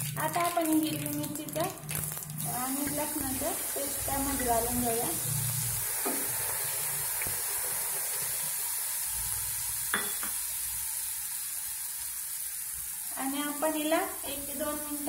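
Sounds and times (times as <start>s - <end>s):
paste sizzling in hot oil: 2.0s - 15.0s.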